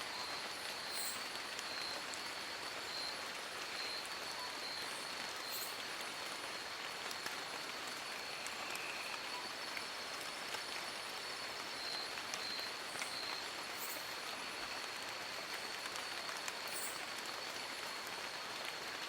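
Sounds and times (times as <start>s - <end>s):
rain on leaves: 0.0s - 19.0s.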